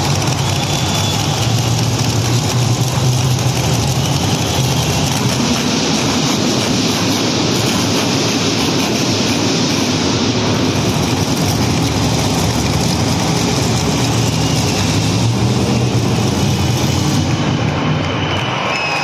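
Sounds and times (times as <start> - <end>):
monster truck engines rumbling: 0.0 - 19.0.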